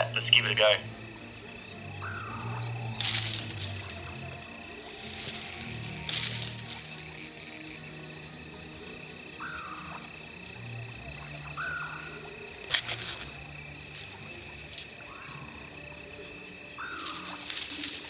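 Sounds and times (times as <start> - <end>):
frogs and insects trilling: 0.0 - 18.0.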